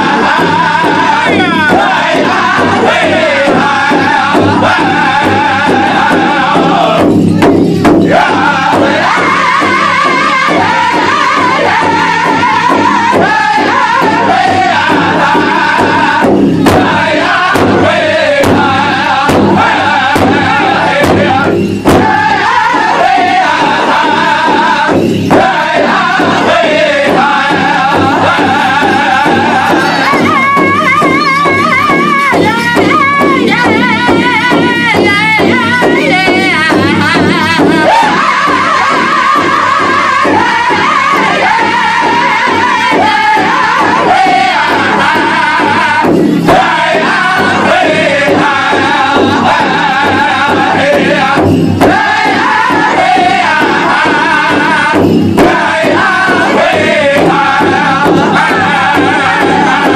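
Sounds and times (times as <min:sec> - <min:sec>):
drum group singing: 0:00.0 - 0:59.9
unison beats on large drum: 0:00.0 - 0:59.9.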